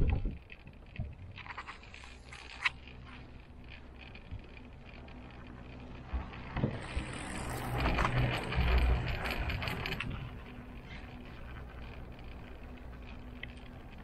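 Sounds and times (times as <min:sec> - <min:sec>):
cable car rollers clattering: 0:00.0 - 0:14.0
low hum of moving cabin: 0:00.0 - 0:14.0.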